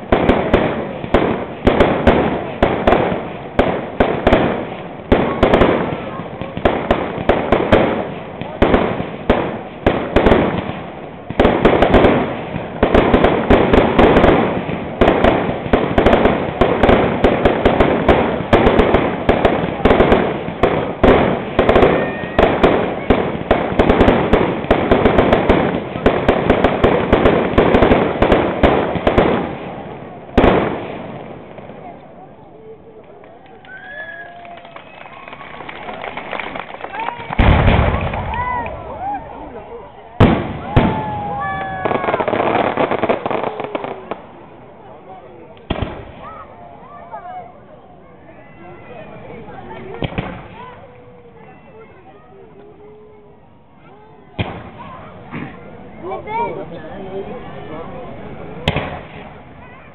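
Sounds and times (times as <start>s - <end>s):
fireworks bangs: 0.0s - 53.2s, 53.8s - 59.9s.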